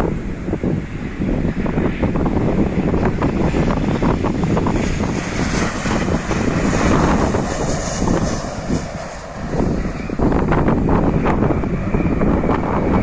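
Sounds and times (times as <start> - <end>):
airliner engines running: 0.0 - 13.0
wind buffeting microphone: 0.0 - 13.0.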